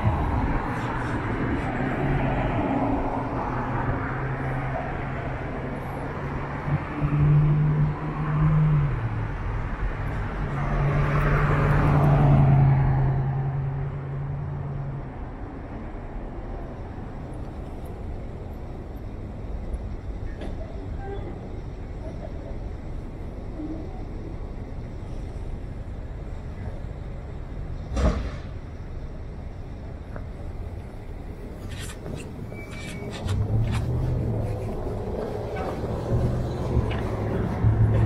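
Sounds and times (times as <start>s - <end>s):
traffic engine drone: 0.0s - 38.0s.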